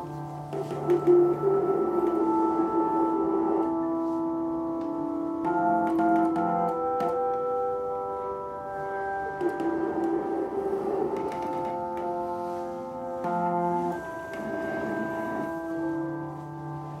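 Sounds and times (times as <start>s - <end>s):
layered drone tones: 0.0s - 17.0s.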